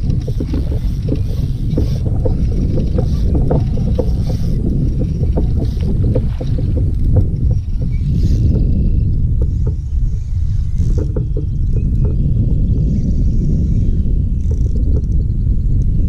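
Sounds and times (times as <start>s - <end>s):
water lapping against kayak hull: 0.0s - 13.0s
wind buffeting microphone: 0.0s - 16.0s.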